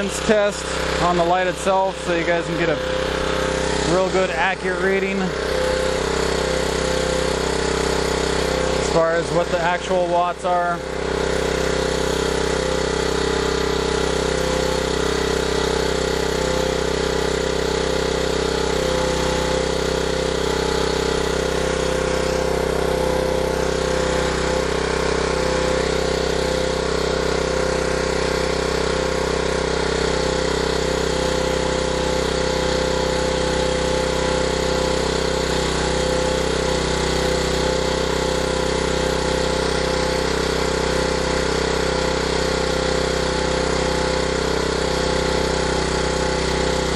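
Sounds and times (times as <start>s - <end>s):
generator engine running: 0.0s - 46.9s.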